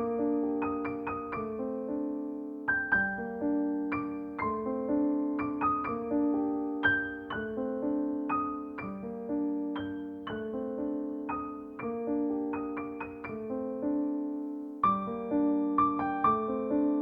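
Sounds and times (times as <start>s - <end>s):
soft piano piece: 0.0s - 17.0s.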